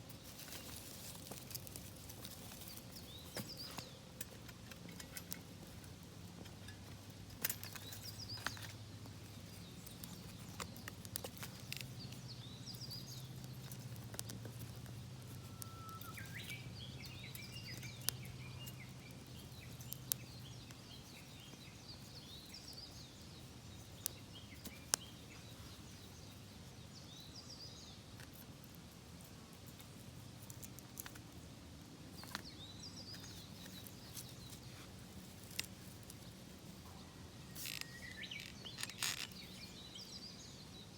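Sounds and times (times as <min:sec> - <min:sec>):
twig fire crackling: 0:00.0 - 0:40.6
birds chirping: 0:00.1 - 0:28.4, 0:30.3 - 0:40.9.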